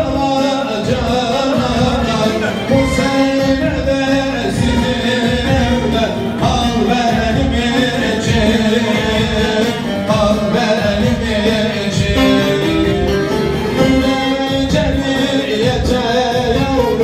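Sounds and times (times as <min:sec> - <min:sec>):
man singing through loudspeaker: 0:00.0 - 0:17.0
steady beat: 0:00.0 - 0:17.0
strummed long-necked lute: 0:00.0 - 0:17.0.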